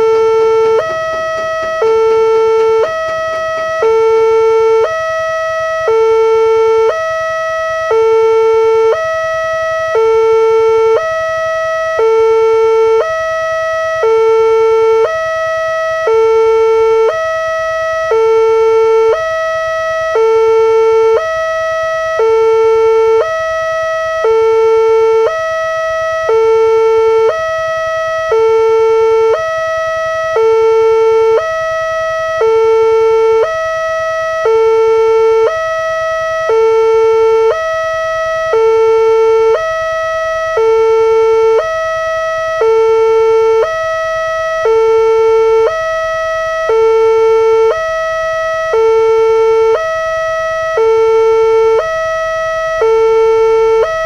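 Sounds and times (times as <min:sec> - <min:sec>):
two-tone level crossing alarm: 0:00.0 - 0:54.0.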